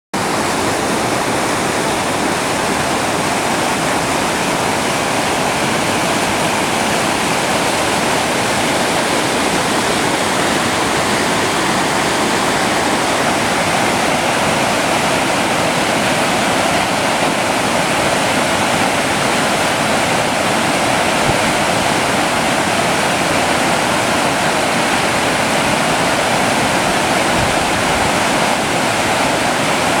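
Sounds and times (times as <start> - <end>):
stream rushing: 0.2 - 30.0.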